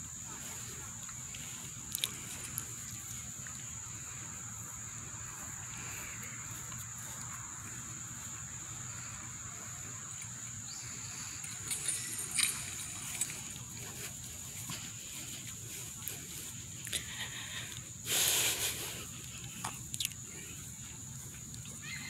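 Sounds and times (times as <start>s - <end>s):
insect drone: 0.0s - 22.0s.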